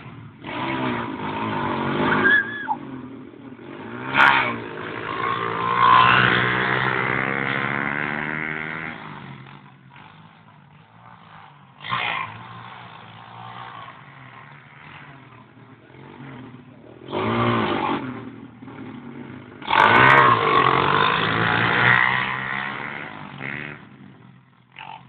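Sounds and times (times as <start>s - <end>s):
mini motorbike engines revving: 0.0s - 25.0s.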